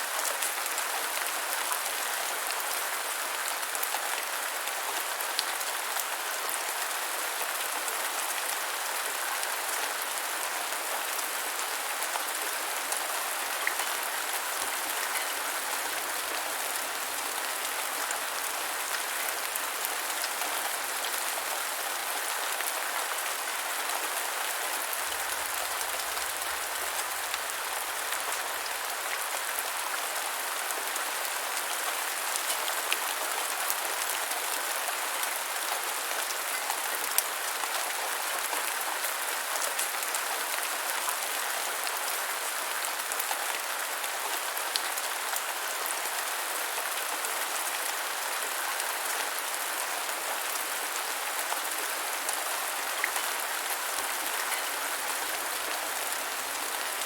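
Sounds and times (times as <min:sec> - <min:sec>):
rain falling on ground: 0:00.0 - 0:57.0.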